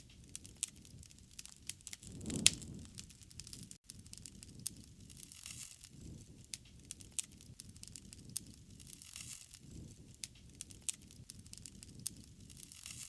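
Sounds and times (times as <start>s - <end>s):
wood fire crackling and popping: 0.0s - 13.0s
flame rushing: 0.1s - 13.0s.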